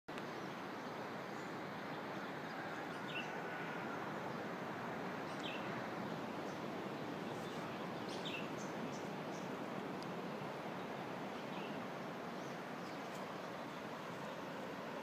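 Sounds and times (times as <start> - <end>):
outdoor background hiss: 0.1 - 15.0.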